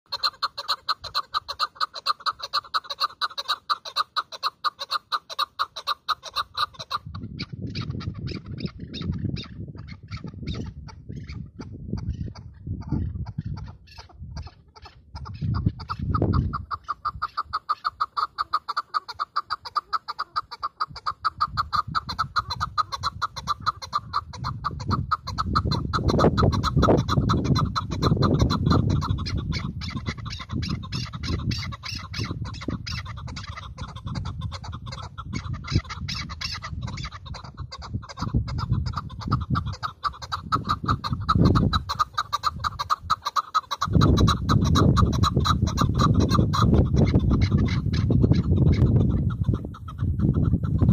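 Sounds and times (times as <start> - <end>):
partridge calling rapid chuck notes: 0.1 - 50.9.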